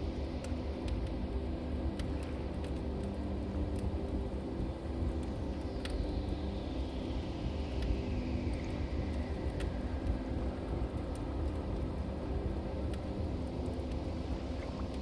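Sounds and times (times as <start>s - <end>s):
fire crackling and popping: 0.0s - 15.0s
fire roaring: 0.0s - 15.0s.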